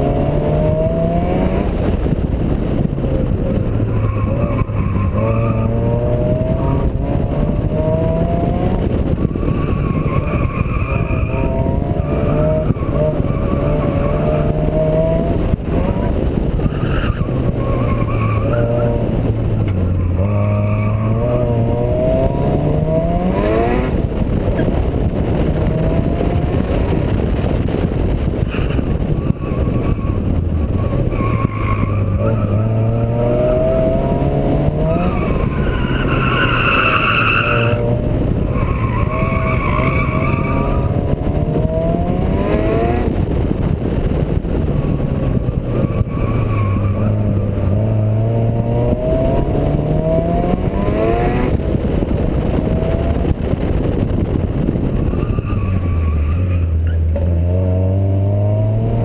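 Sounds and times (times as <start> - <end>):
car engine accelerating: 0.0 - 59.0
wind and road noise: 0.0 - 59.0.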